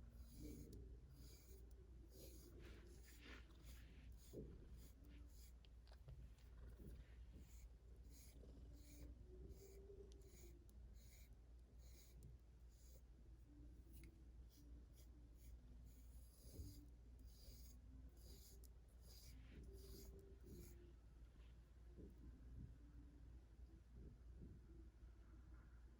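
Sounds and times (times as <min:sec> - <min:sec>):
brush stroking cat fur: 0:00.0 - 0:20.8.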